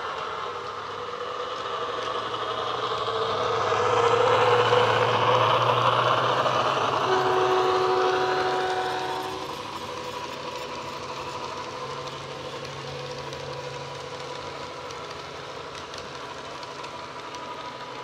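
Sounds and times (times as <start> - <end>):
model train diesel engine sound: 0.0 - 18.0.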